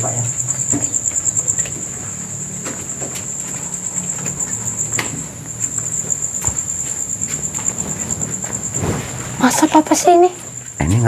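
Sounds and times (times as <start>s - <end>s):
footsteps on floor: 0.0s - 10.8s
crickets trilling: 0.0s - 11.0s.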